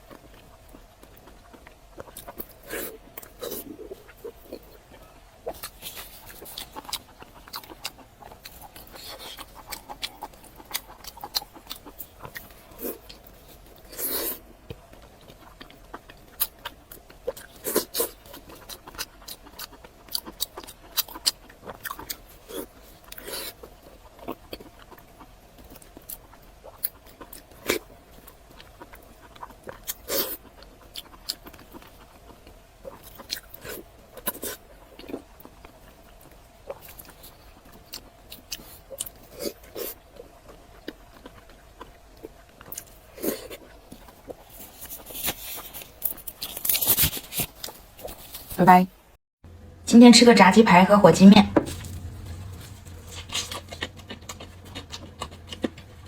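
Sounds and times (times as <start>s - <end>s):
chewing: 0.0s - 48.5s, 51.6s - 56.0s.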